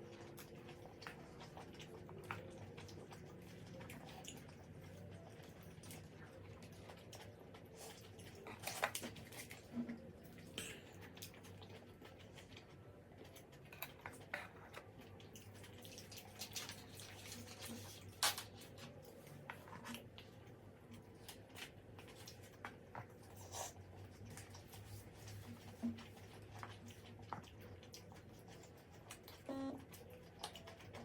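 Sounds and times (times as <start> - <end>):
wet chewing: 0.0 - 31.0.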